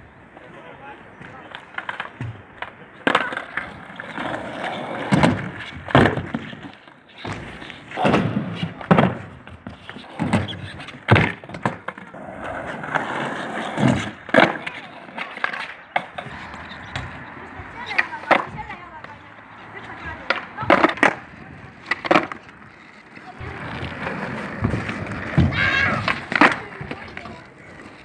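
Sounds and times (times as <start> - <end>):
skateboard wheels rolling on asphalt: 0.0 - 28.0
skateboard popping and landing: 1.2 - 28.0.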